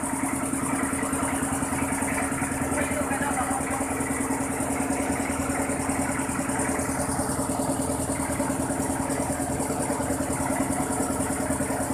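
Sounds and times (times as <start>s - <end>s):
milling machine pulsing hum: 0.0s - 11.9s.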